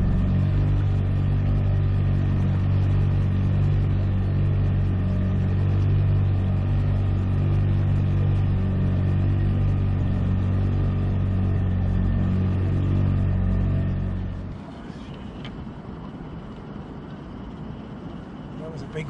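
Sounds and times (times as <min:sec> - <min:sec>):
boat motor droning: 0:00.0 - 0:19.0.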